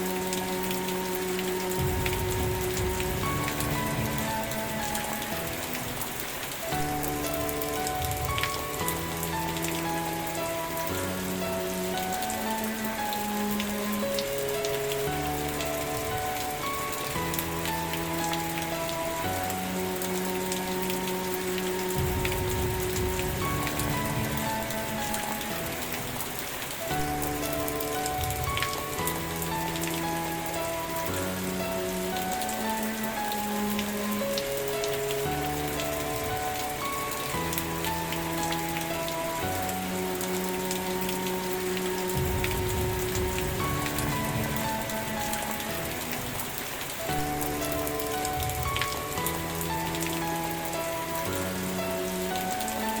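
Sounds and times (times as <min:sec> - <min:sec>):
soft music with held notes: 0:00.0 - 0:53.0
steady rain: 0:00.0 - 0:53.0.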